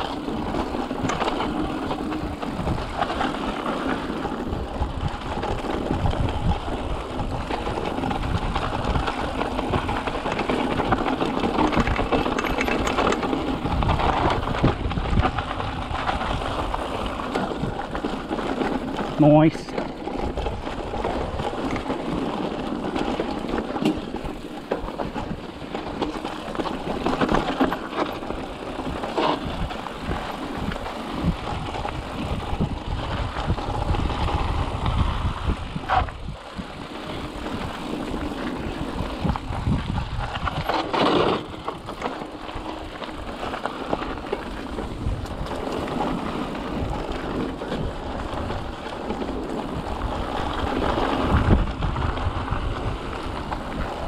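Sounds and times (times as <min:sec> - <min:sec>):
rattles and knocks over bumps: 0:00.0 - 0:36.2, 0:37.0 - 0:54.0
mountain bike tyres on dirt trail: 0:00.0 - 0:54.0
wind rumbling on microphone: 0:00.0 - 0:54.0.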